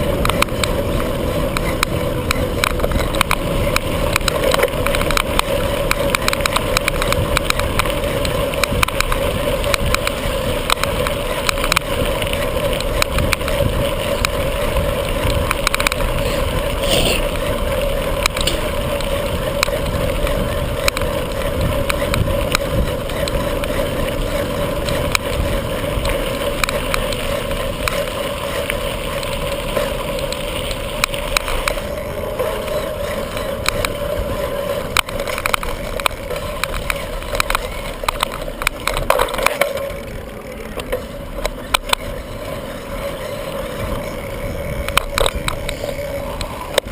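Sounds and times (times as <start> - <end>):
bicycle rattling clicks: 0.0 - 46.9
wind and tyres rushing: 0.0 - 46.9.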